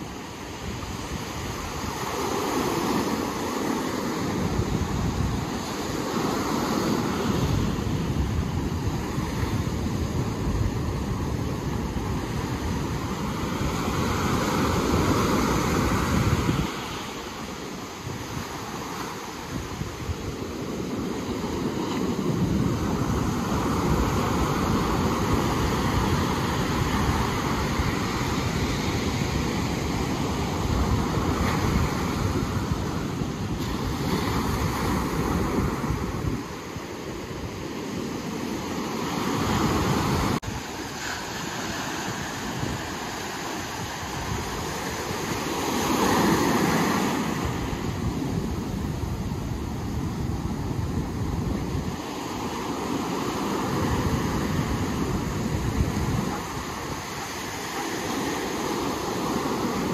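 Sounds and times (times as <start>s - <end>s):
ocean surf washing ashore: 0.0s - 59.9s
wind rumbling on microphone: 0.0s - 59.9s.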